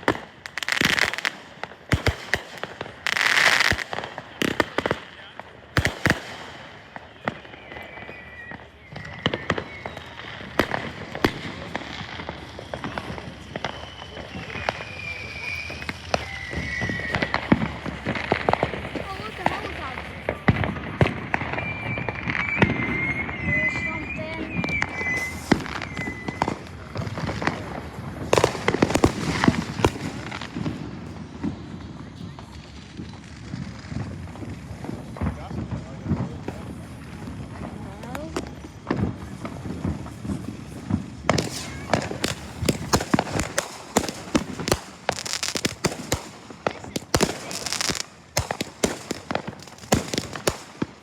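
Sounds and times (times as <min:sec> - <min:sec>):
firework bangs and pops: 0:00.0 - 0:51.0
firework crackling: 0:00.0 - 0:51.0
firework whistle: 0:05.8 - 0:51.0.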